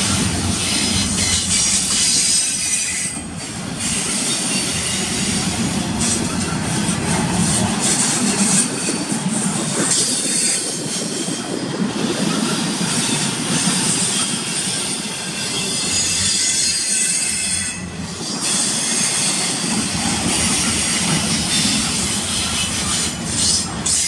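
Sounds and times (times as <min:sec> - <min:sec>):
freight train wheels rolling on rail: 0:00.0 - 0:24.0.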